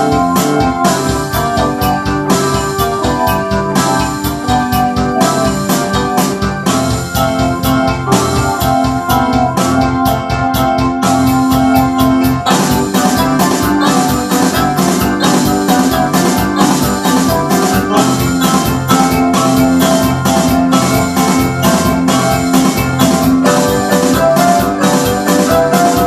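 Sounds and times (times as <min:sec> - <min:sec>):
rock keyboard chords: 0:00.0 - 0:26.0.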